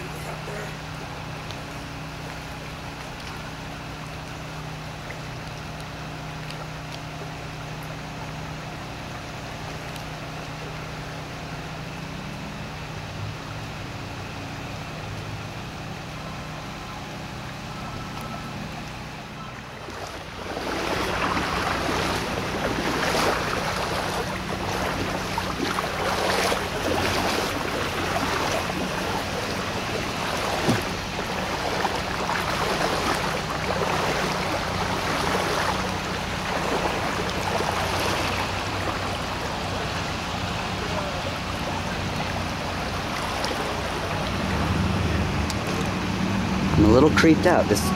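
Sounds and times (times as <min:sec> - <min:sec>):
floodwater rushing: 0:00.0 - 0:47.9
low hum: 0:00.0 - 0:47.9.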